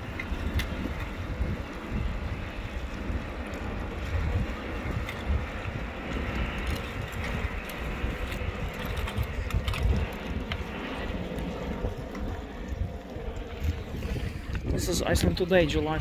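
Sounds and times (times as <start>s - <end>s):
lava crust cracking: 0.0s - 16.0s
wind buffeting microphone: 0.0s - 16.0s.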